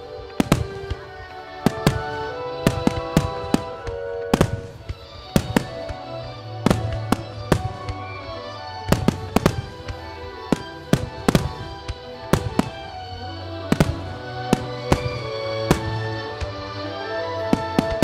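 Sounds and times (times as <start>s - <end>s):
music playing: 0.0s - 18.0s.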